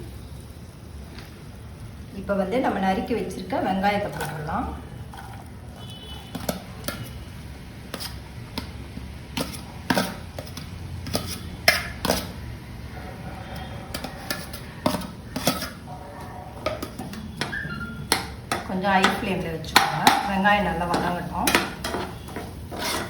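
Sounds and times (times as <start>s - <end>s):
utensil scraping against a pan: 4.0s - 23.0s.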